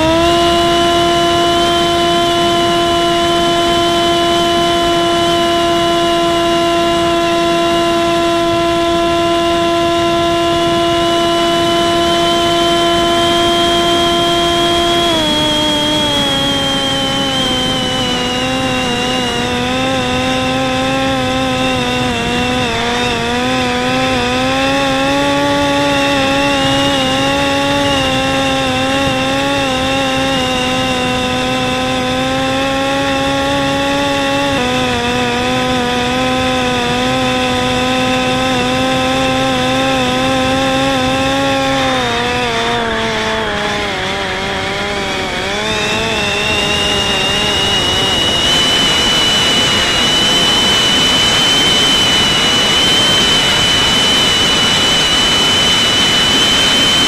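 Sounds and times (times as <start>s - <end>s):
drone propeller buzzing: 0.0s - 57.0s.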